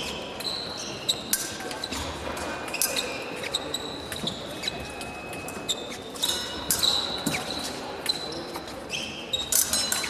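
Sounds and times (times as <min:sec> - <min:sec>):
shoe squeaks on floor: 0:00.0 - 0:10.0.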